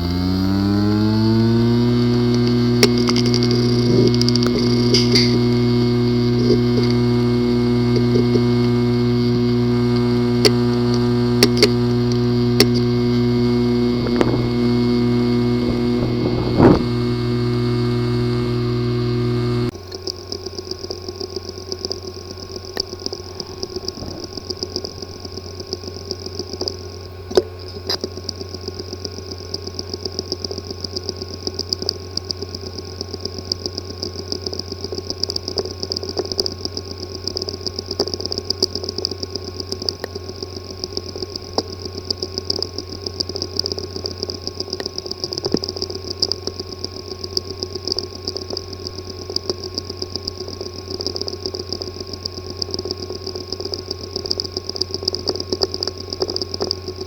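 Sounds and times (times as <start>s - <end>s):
hard drive ticking and clicking: 0.0s - 57.0s
hard drive whirring: 0.0s - 57.0s.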